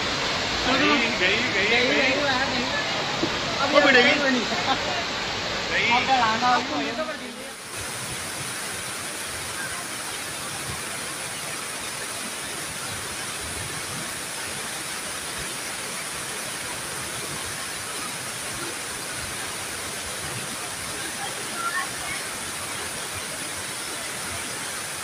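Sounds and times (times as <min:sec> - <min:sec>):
floodwater rushing down street: 0:00.0 - 0:25.0.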